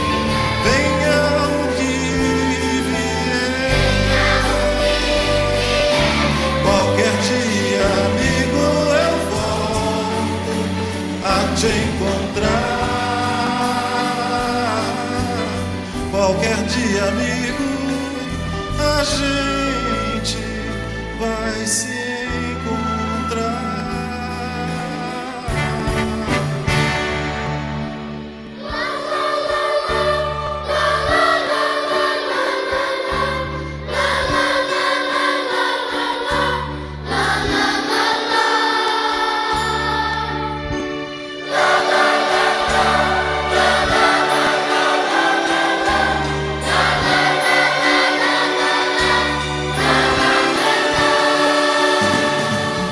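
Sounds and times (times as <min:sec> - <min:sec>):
choir singing held chords: 0:00.0 - 0:16.1, 0:24.6 - 0:52.9.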